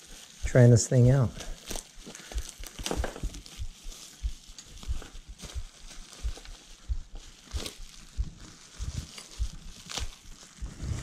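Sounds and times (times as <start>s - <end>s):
packing tape peeling: 0.0s - 0.5s, 1.3s - 11.0s
bubble wrap crinkling: 0.0s - 11.0s.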